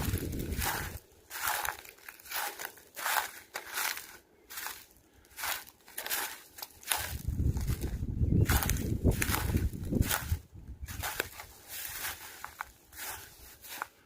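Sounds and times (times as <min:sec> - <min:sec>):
footsteps crunching: 0:00.0 - 0:14.0.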